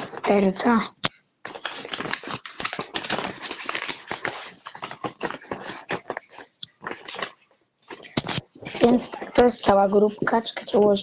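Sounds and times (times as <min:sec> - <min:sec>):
paper rustling and crinkling: 0:00.0 - 0:00.7, 0:01.4 - 0:11.0.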